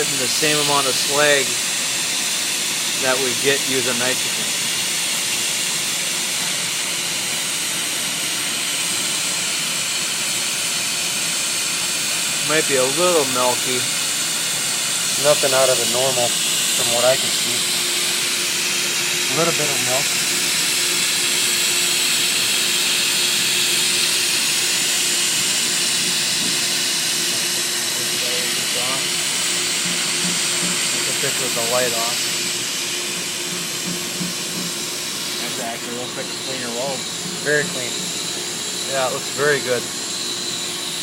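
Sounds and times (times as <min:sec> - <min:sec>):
air hissing through welder: 0:00.0 - 0:41.0.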